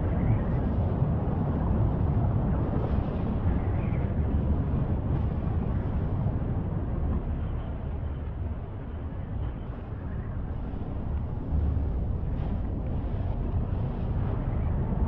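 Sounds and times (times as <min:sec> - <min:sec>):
volcano rumbling: 0:00.0 - 0:15.0
wind noise on microphone: 0:00.0 - 0:15.0.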